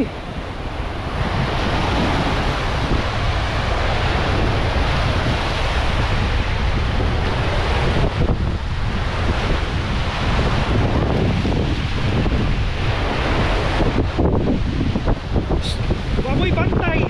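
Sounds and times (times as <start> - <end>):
sea waves: 0.0 - 17.0
wind buffeting microphone: 0.0 - 17.0
wind rushing: 0.0 - 17.0.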